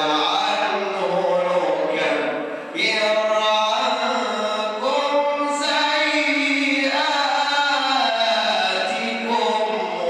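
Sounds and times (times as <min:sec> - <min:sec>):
man chanting melodically: 0:00.0 - 0:10.0.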